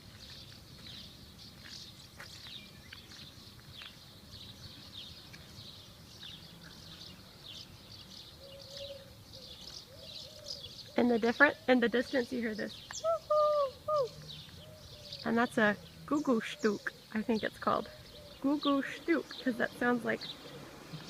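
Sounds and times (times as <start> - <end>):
small birds twittering: 0.0 - 21.0.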